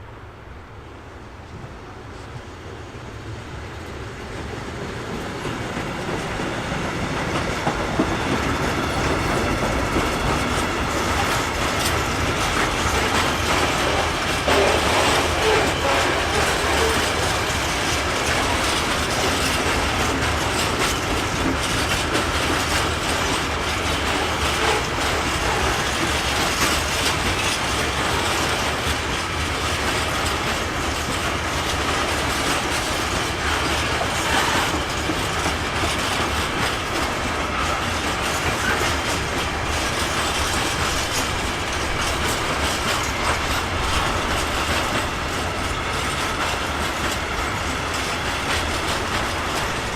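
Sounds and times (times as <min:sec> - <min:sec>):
freight train wagons rolling past: 0:00.0 - 0:49.9.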